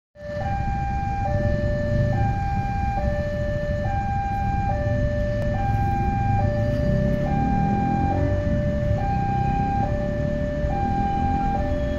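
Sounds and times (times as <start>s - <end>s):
two-tone level crossing alarm: 0.2s - 11.9s.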